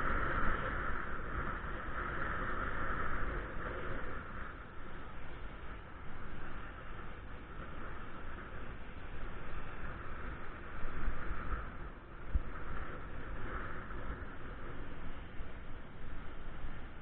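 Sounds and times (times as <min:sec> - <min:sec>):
road noise hiss: 0:00.0 - 0:17.0
wind buffeting microphone: 0:00.0 - 0:17.0.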